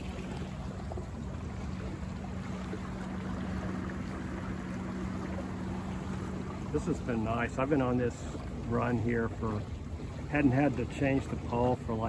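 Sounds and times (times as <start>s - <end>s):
steady low hum: 0.0s - 12.0s
water rushing along boat hull: 0.0s - 12.0s.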